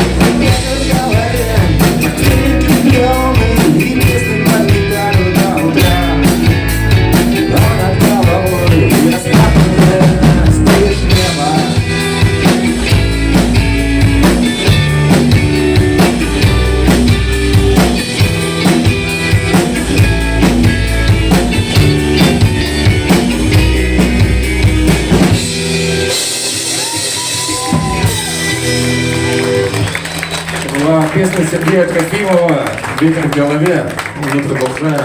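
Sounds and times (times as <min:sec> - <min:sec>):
electric guitar: 0:00.0 - 0:33.0
drum kit: 0:00.0 - 0:33.1
bass guitar: 0:00.0 - 0:34.5.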